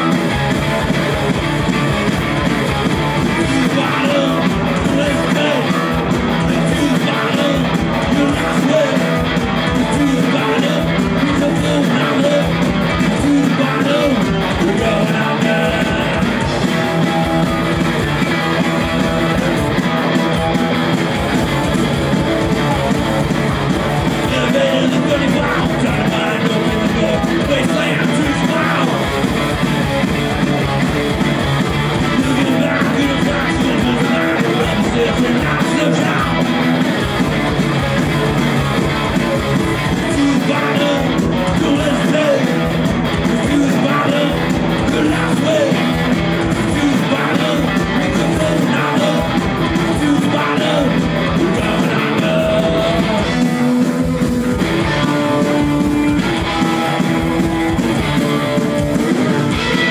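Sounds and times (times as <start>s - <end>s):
electric guitar: 0.0s - 59.9s
punk rock band playing live: 0.0s - 59.9s
person singing: 2.9s - 20.7s, 21.4s - 30.8s, 31.4s - 59.9s.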